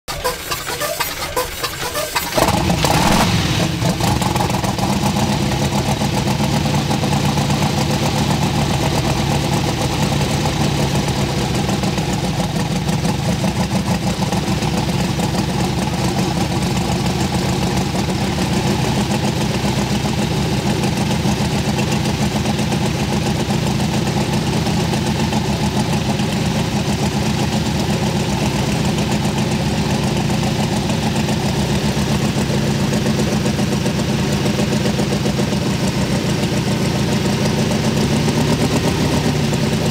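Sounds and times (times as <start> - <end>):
radial aircraft engine running: 0.1 - 39.9.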